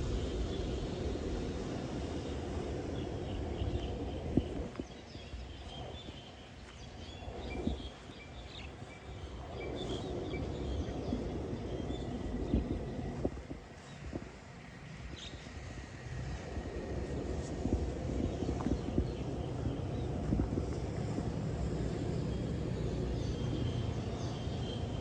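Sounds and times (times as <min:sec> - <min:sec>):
road traffic rumble: 0:00.0 - 0:25.0
small birds chirping: 0:02.2 - 0:25.0.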